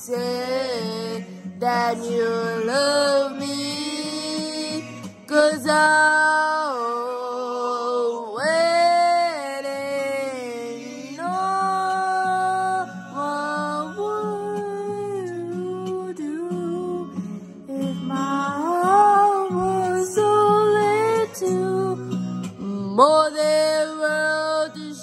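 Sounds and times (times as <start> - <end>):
woman singing a ballad: 0.0 - 25.0.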